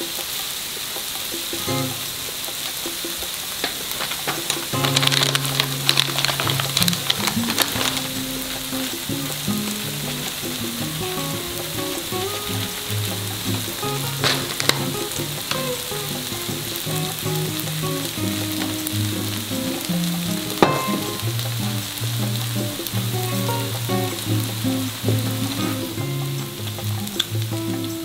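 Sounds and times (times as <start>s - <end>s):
fried rice sizzling on griddle: 0.0s - 28.0s.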